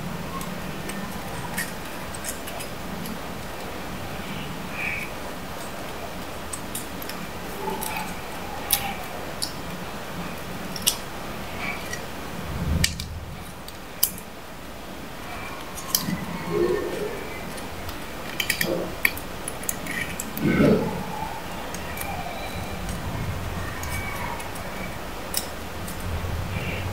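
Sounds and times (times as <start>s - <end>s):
steady low hiss: 0.0s - 26.9s.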